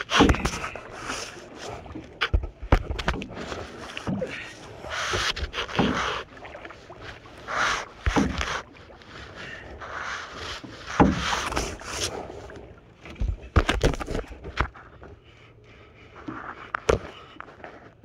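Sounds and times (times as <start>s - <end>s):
canoe paddle swishing water: 0.0s - 18.0s.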